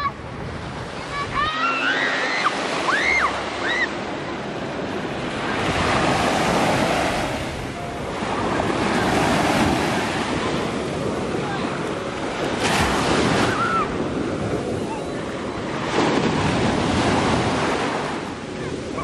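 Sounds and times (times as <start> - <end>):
wind buffeting microphone: 0.0 - 2.0, 2.6 - 19.0
surf washing onto sandy shore: 0.0 - 19.0.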